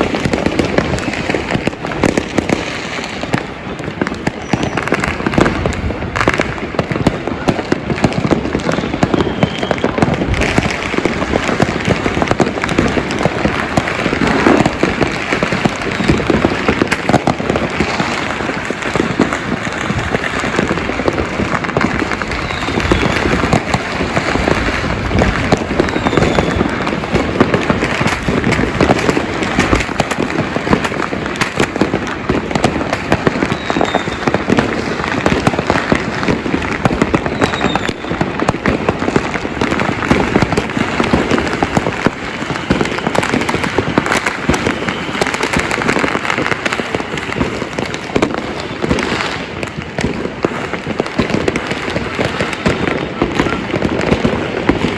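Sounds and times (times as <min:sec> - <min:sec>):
fireworks and firecrackers exploding: 0:00.0 - 0:54.9.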